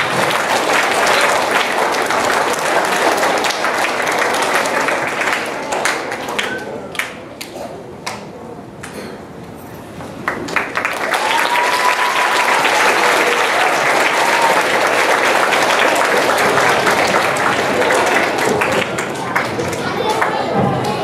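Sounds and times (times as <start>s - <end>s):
audience applauding: 0.0s - 7.5s, 10.2s - 21.0s.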